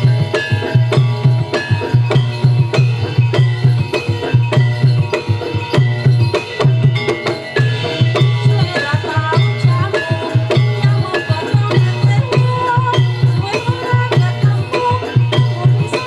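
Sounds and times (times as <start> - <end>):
hand drums beating: 0.0 - 16.0
metallophones ringing: 0.0 - 16.0.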